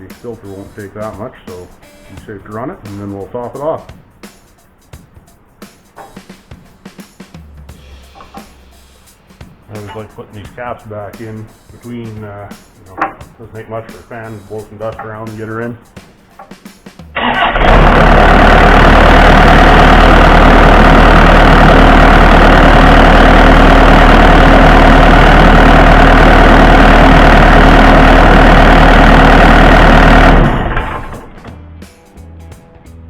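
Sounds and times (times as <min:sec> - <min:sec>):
diesel engine running: 0:00.0 - 0:04.4, 0:05.2 - 0:31.6.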